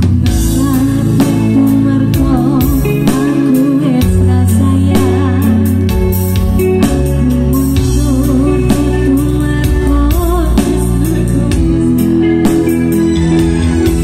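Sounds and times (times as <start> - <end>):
steady drum beat: 0.0 - 5.2, 5.9 - 8.2, 9.7 - 14.0
electronic keyboard: 0.0 - 14.0
woman singing into a microphone: 0.0 - 14.0.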